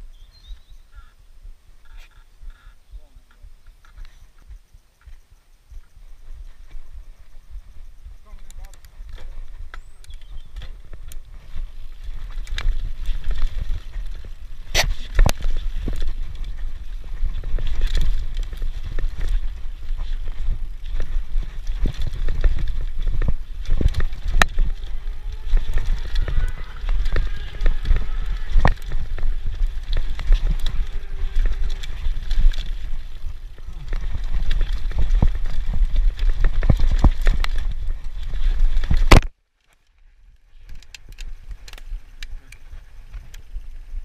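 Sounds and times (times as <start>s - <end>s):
wind and tyre rumble: 0.0s - 44.0s
bike rattling: 3.3s - 44.0s.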